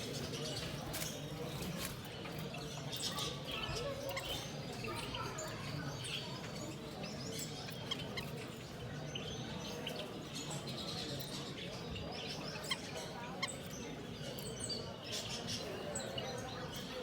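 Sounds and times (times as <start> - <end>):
caged birds chirping: 0.0 - 17.0
low background murmur: 0.0 - 17.0.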